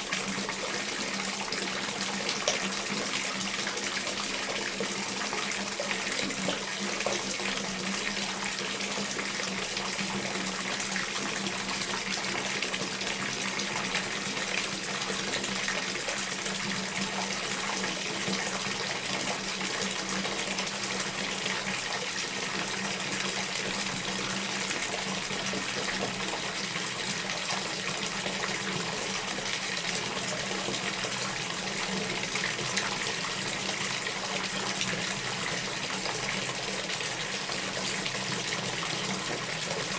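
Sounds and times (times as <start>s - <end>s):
water pouring into bathtub: 0.0s - 39.9s.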